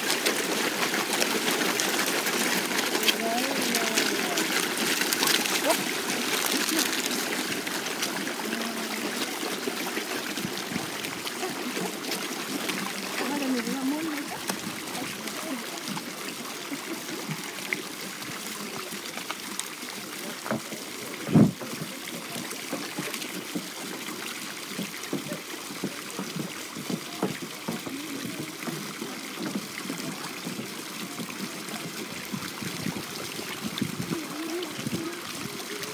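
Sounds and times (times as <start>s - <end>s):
fish slurping at water surface: 0.0s - 35.9s.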